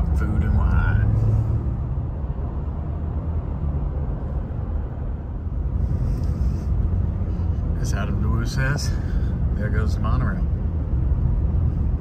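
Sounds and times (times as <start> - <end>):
car road noise from inside: 0.0 - 12.0.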